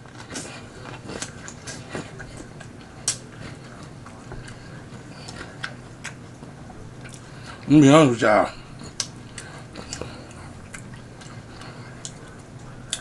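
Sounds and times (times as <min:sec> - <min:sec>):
close chewing: 0:00.0 - 0:07.7, 0:08.7 - 0:13.0.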